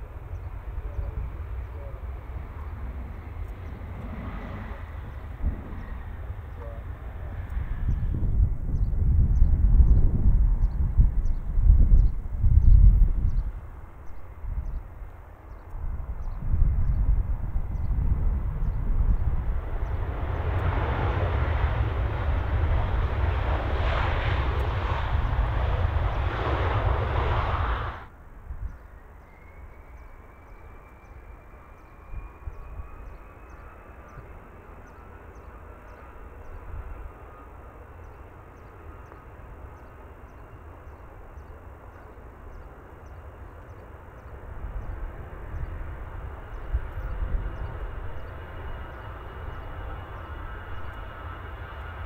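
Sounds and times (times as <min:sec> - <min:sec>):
quiet turbofans running: 0:00.0 - 0:28.1, 0:28.9 - 0:52.0
jet engines rumbling at high power: 0:00.0 - 0:52.0.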